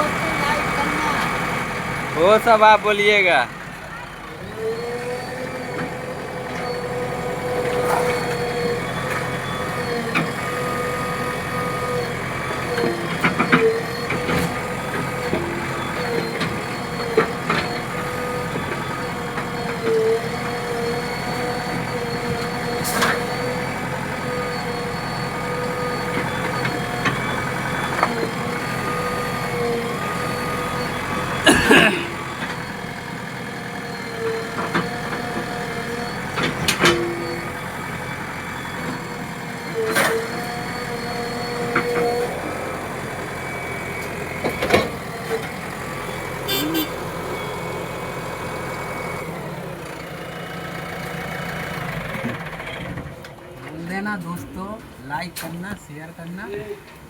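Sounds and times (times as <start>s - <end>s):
diesel engine whining: 0.0s - 57.0s.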